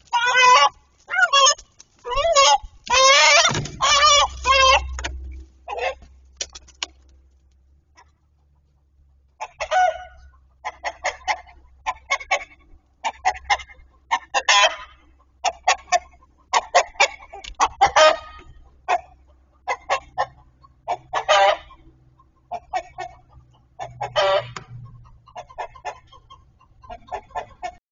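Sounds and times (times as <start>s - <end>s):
chickens clucking: 0.0s - 27.8s
drawn-out chicken calls: 0.0s - 27.8s.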